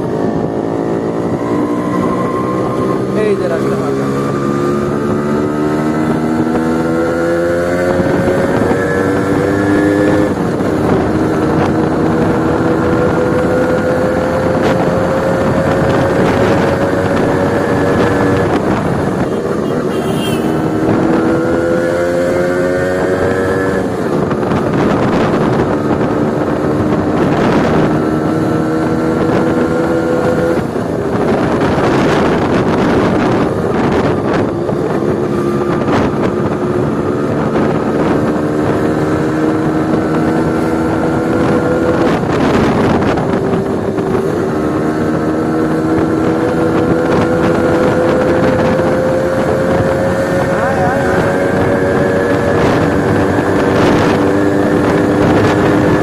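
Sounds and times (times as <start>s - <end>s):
loud motorcycle engine revving: 0.0s - 56.0s
wind on microphone: 0.0s - 56.0s.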